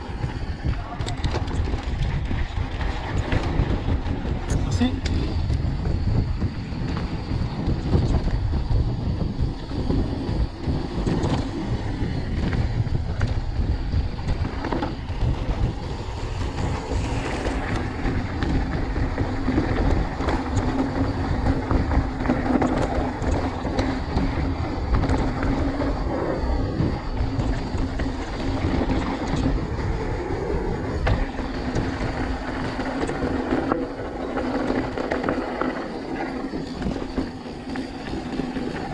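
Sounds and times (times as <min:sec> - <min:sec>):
bike tyres crunching over gravel: 0:00.0 - 0:38.9.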